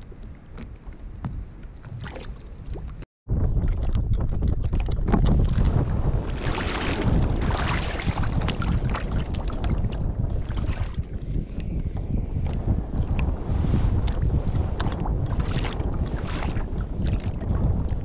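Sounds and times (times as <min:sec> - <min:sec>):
wind buffeting microphone: 0:00.0 - 0:18.0
water splashes: 0:00.5 - 0:11.4, 0:12.4 - 0:18.0.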